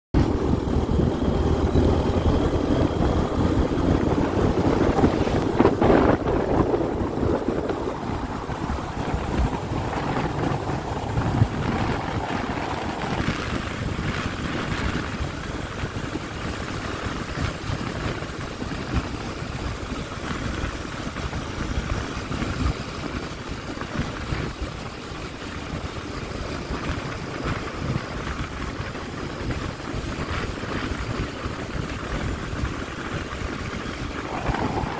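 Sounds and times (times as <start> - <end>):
small motorcycle engine running: 0.2 - 34.9
wind buffeting microphone: 0.2 - 34.9.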